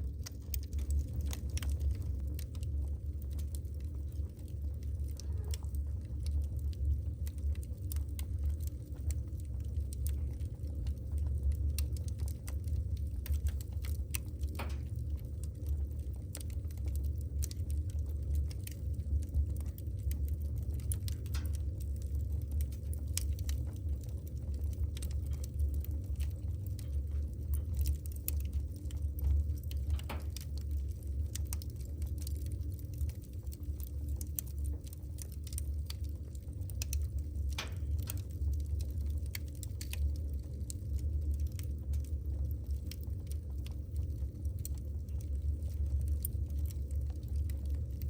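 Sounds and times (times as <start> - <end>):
firewood crackling and popping: 0.0 - 48.0
low rumble of flames: 0.0 - 48.0.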